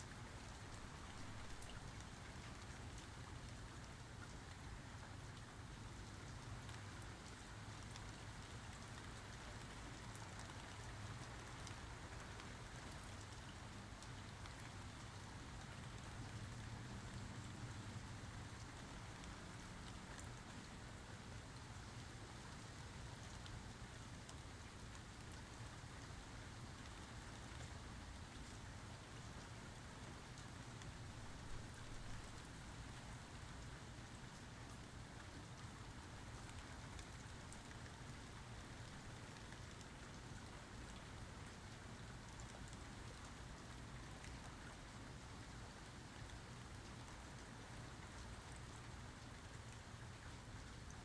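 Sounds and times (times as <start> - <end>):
faint rain falling: 0.0 - 51.0.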